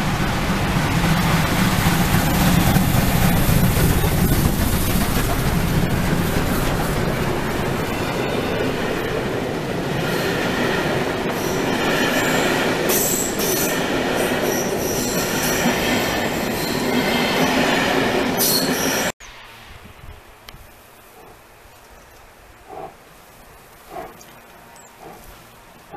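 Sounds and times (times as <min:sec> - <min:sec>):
train wheels rumbling on track: 0:00.0 - 0:21.5, 0:22.6 - 0:25.9
faint outdoor background: 0:00.0 - 0:25.9.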